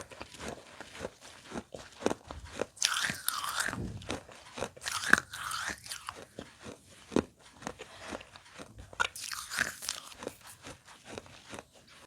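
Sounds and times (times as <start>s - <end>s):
clay pot pieces crunched by chewing: 0.0s - 12.0s.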